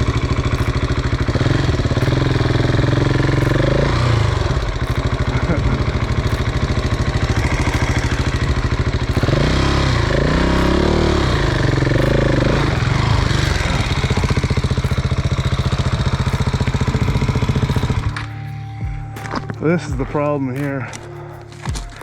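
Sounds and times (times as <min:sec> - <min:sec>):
motorcycle engine under load: 0:00.0 - 0:22.0.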